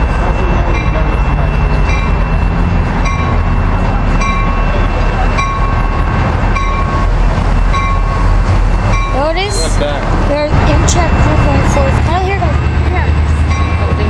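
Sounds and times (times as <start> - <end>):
diesel locomotive engine rumble: 0.0 - 14.0
locomotive bell ringing: 0.0 - 14.0.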